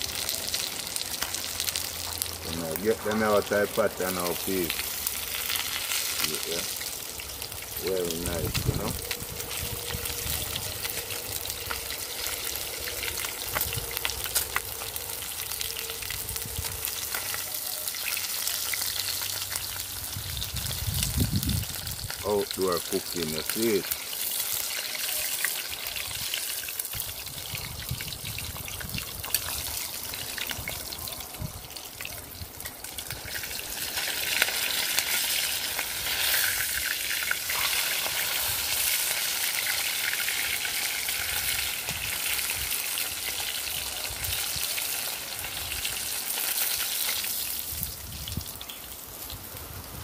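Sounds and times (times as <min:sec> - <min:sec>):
fish sizzling in hot oil: 0:00.0 - 0:50.0.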